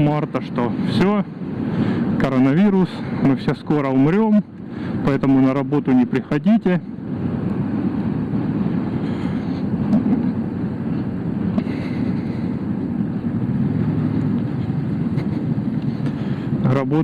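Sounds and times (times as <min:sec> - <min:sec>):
motorcycle engine drone: 0:00.0 - 0:17.0
road noise: 0:00.0 - 0:17.0.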